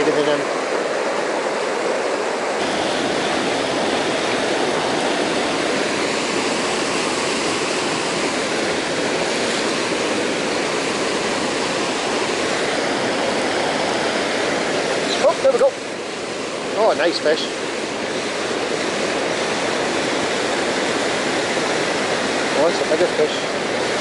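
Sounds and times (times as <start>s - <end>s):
stream rushing over stone weirs: 0.0s - 24.0s.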